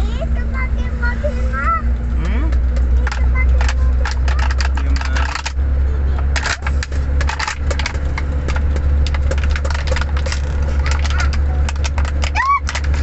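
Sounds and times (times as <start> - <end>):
car engine and tyres rumbling: 0.0 - 13.0
light clicks and rattles: 2.2 - 13.0.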